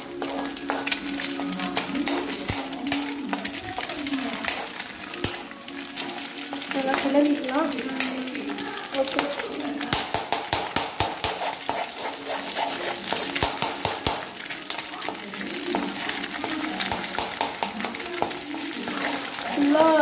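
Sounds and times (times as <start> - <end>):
egg sizzling in oil: 0.0 - 20.0
metal spatula scraping a pan: 0.0 - 20.0.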